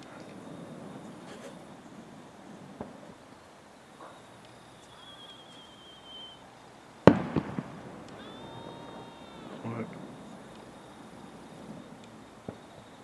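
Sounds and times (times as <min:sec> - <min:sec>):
firework bangs: 0:00.0 - 0:13.0
firework whistle: 0:00.0 - 0:13.0.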